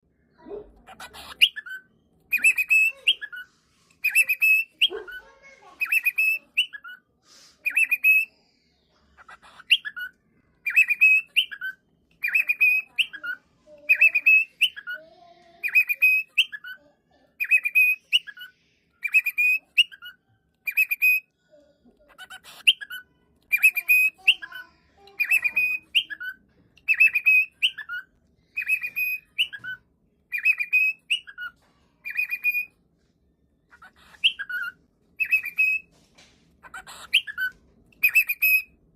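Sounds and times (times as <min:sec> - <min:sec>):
cockatiel calling: 0:00.8 - 0:07.0, 0:07.6 - 0:08.3, 0:09.2 - 0:15.0, 0:15.6 - 0:16.8, 0:17.4 - 0:21.2, 0:22.0 - 0:32.7, 0:33.7 - 0:35.9, 0:36.6 - 0:38.7.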